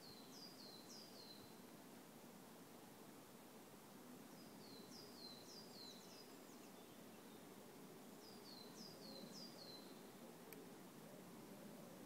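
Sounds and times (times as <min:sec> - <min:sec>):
faint background noise: 0:00.0 - 0:12.0
songbird singing faintly: 0:00.0 - 0:12.0.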